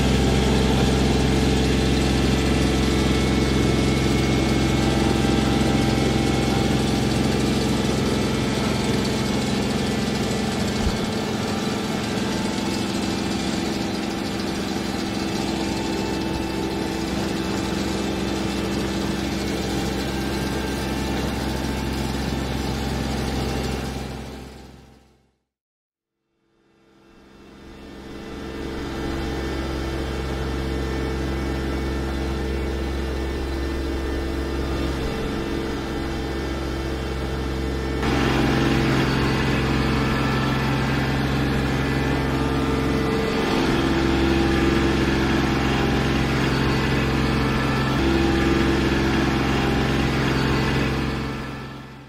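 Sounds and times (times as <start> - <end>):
tractor diesel engine running: 0.0 - 25.0, 27.8 - 52.0.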